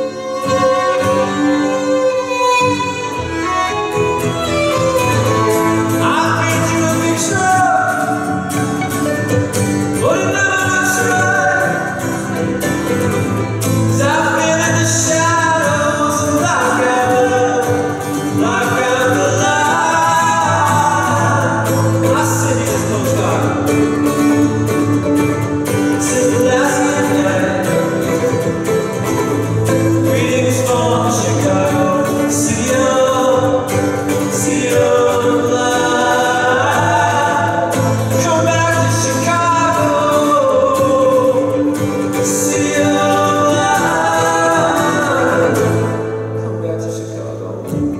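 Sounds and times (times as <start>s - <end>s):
violin: 0.0s - 47.0s
acoustic guitar: 0.0s - 47.9s
men singing: 5.3s - 8.8s, 9.8s - 25.0s, 25.7s - 46.4s.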